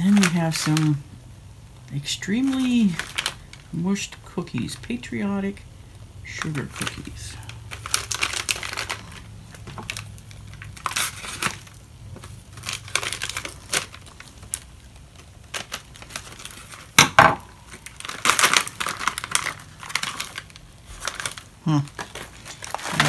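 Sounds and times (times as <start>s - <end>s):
foil pouch crinkling: 0.0s - 1.1s, 1.7s - 23.0s.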